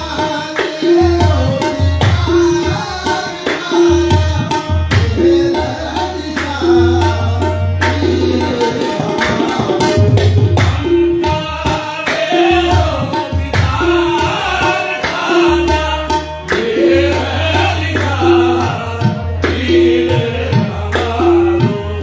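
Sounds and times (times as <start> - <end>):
harmoniums: 0.0 - 22.0
men singing: 0.0 - 22.0
tabla playing: 0.0 - 22.0.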